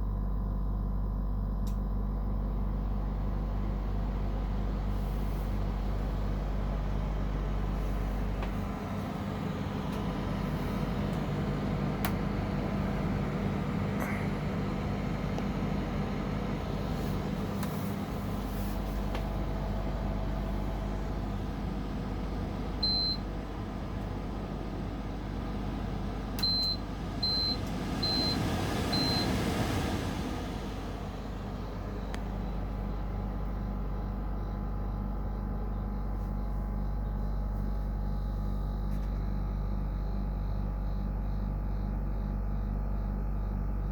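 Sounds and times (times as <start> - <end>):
air conditioner compressor humming: 0.0 - 43.9.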